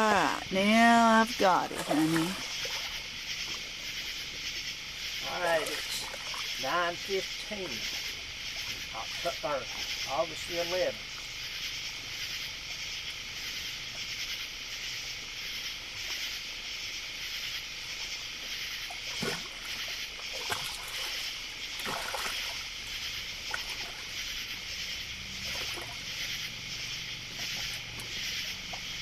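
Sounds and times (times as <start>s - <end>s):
insects chorus pulsing: 0.0s - 29.0s.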